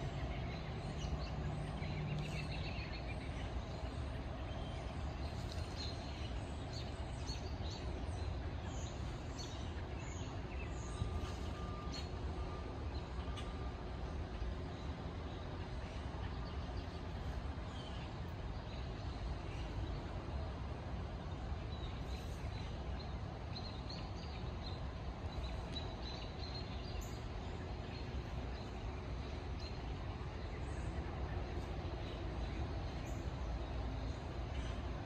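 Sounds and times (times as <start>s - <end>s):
low background rumble: 0.0s - 35.0s.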